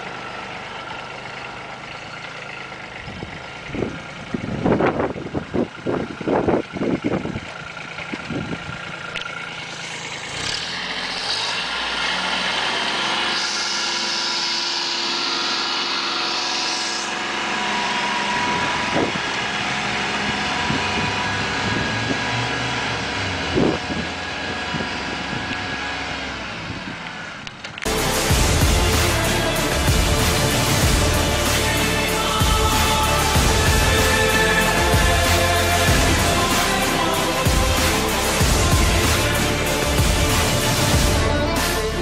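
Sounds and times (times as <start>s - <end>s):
tractor engines running: 0.0s - 42.0s.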